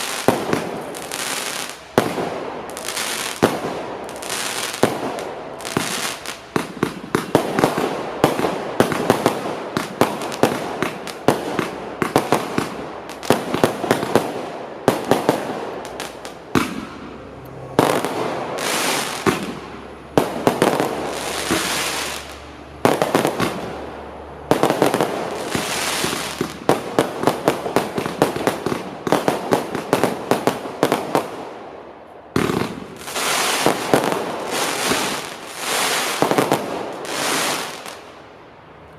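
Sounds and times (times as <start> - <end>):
firework bursts: 0.0 - 17.2, 17.8 - 31.6, 32.4 - 38.2
firework crackling: 0.0 - 17.2, 17.8 - 31.7, 32.4 - 38.2.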